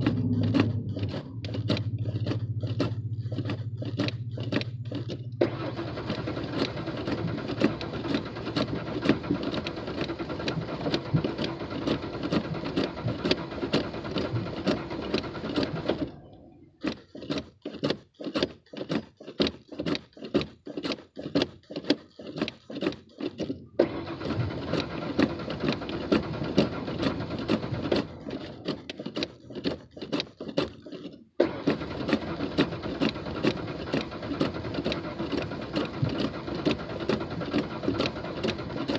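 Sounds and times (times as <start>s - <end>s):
car engine cranking: 0.0s - 38.9s
sharp rhythmic clicking: 0.0s - 38.9s.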